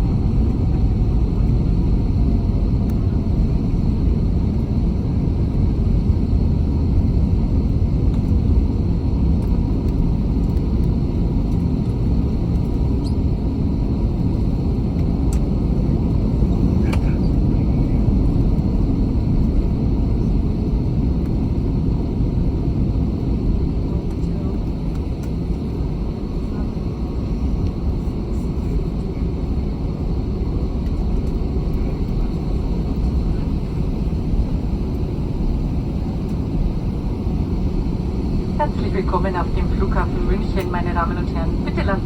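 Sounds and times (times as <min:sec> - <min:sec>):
airplane cabin rumble: 0:00.0 - 0:42.0
faint steady whines: 0:00.0 - 0:42.0.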